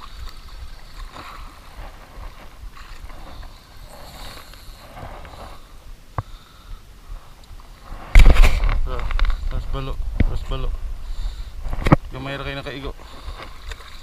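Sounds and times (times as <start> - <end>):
water around boat: 0.0 - 14.0
wind: 0.0 - 14.0.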